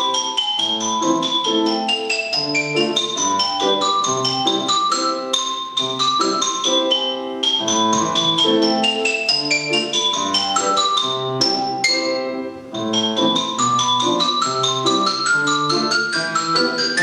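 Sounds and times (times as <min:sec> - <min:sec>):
struck ringing notes: 0:00.0 - 0:17.0.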